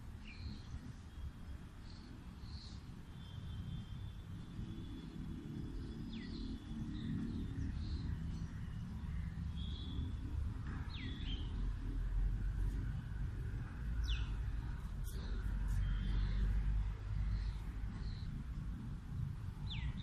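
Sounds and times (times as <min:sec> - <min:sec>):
steady low rumble: 0:00.0 - 0:20.0
birds chirping: 0:00.1 - 0:20.0.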